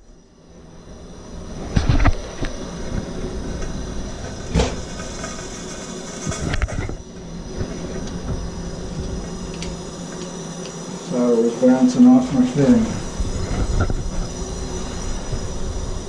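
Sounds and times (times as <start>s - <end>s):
soldering torch flame: 0.0s - 16.0s.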